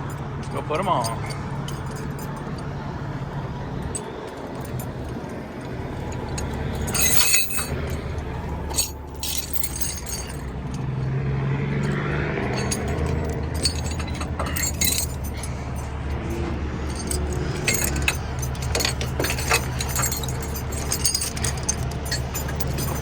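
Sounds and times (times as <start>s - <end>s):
metal chains clinking: 0.0s - 11.2s, 11.8s - 23.0s
diesel truck engine idling: 0.0s - 23.0s.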